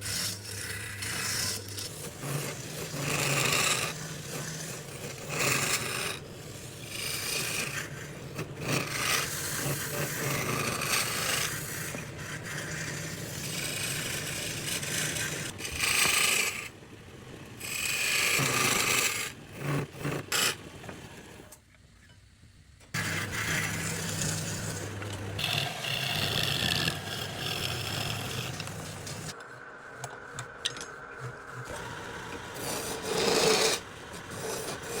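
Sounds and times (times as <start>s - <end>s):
abrasive tool scraping wood: 0.0s - 16.7s, 23.0s - 35.0s.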